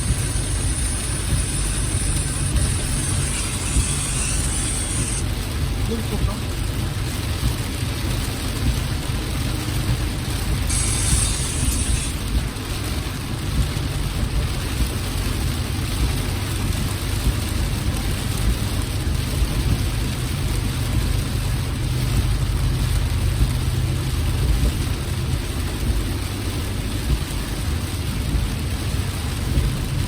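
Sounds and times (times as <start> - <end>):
car driving rumble: 0.0 - 30.0
rain on a car: 0.0 - 30.0.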